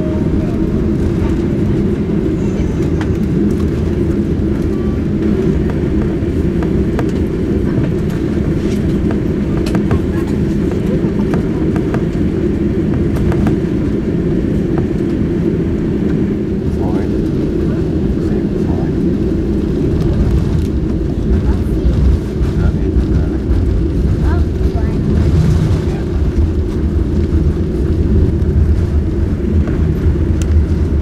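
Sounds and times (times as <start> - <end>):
aircraft cabin rumble: 0.0 - 31.0.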